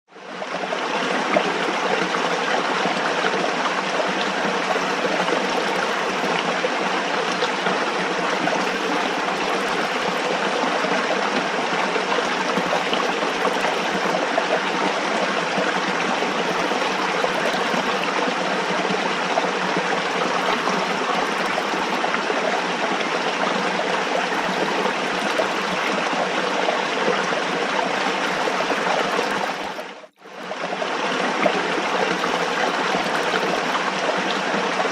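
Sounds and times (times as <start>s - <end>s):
running water rushing: 0.2s - 34.9s.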